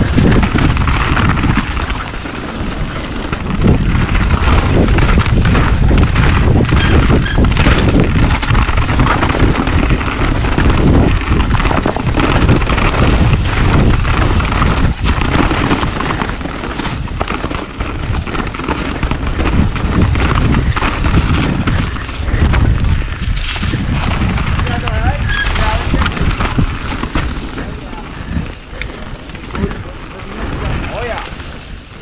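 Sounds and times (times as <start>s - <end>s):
bike tyres clattering over rocks: 0.0s - 32.0s
wind rumbling on microphone: 0.0s - 32.0s.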